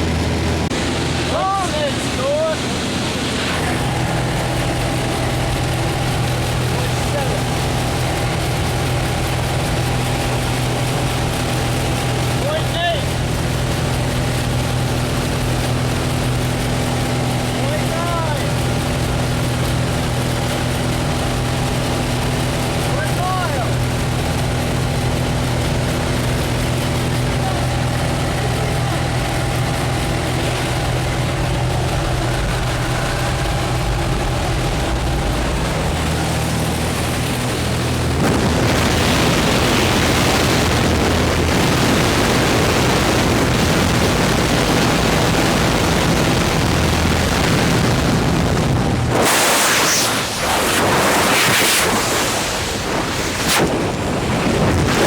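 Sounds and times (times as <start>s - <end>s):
plane engine humming: 0.0s - 55.0s
rushing wind: 0.0s - 55.0s.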